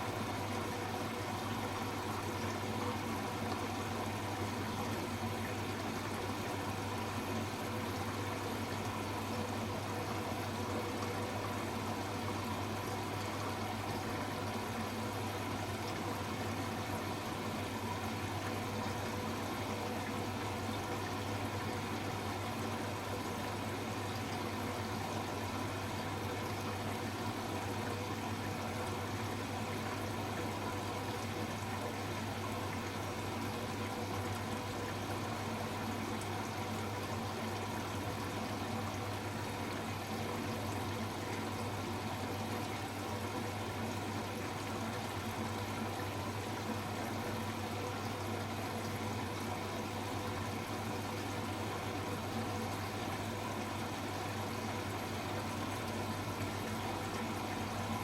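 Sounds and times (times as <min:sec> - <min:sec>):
washing machine low hum: 0:00.0 - 0:58.0
water running in washing machine: 0:00.0 - 0:58.0.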